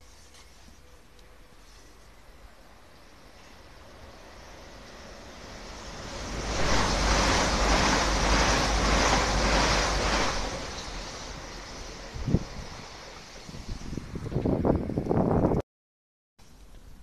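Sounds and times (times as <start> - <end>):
train passing at speed: 1.2 - 15.6.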